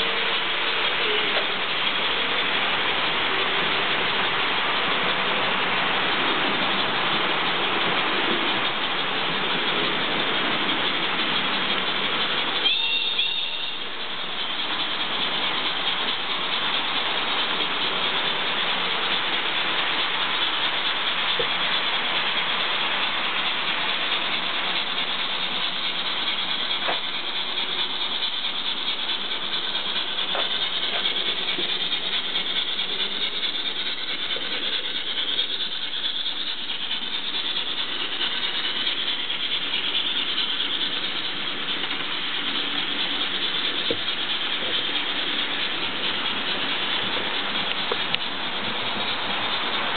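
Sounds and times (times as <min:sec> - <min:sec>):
model trains whirring on rails: 0:00.0 - 0:49.9.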